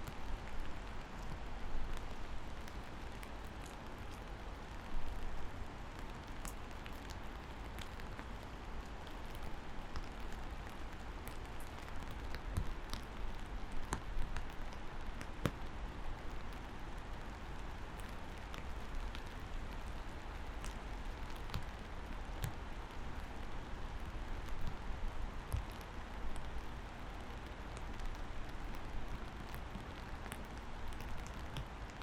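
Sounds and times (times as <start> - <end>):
steady rain falling: 0.0 - 32.0
raindrops ticking: 0.1 - 32.0.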